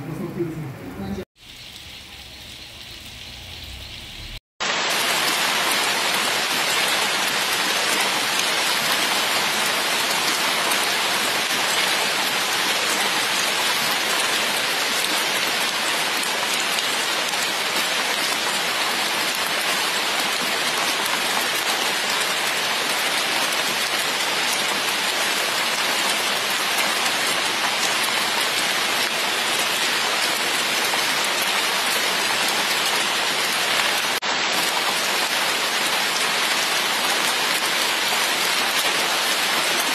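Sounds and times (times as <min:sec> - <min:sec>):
heavy rain on flooded pavement: 0:01.4 - 0:39.9.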